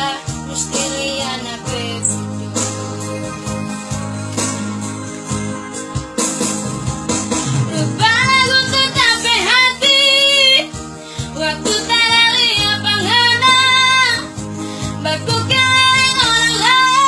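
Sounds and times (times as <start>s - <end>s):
instrumental backing music: 0.0s - 17.0s.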